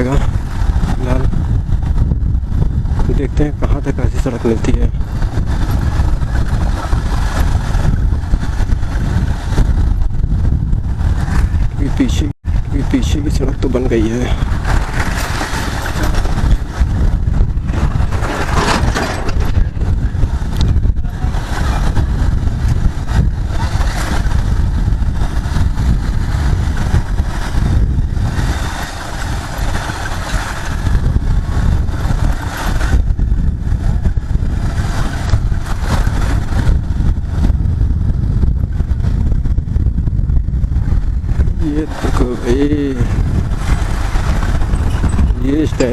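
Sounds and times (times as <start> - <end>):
wind rumble on microphone: 0.0 - 45.9.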